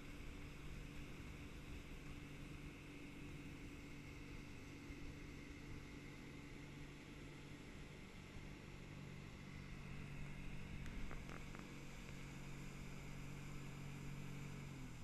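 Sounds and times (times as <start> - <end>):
motorboat engine running: 0.0 - 15.0
rushing water and wake: 0.0 - 15.0.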